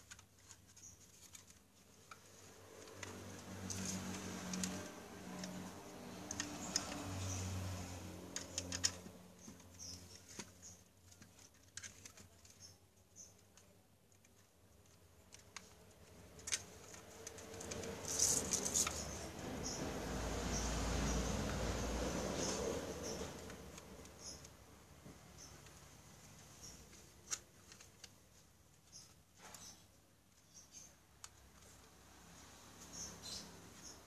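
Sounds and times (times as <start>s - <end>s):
fingers handling plastic fan parts: 0.0s - 34.0s.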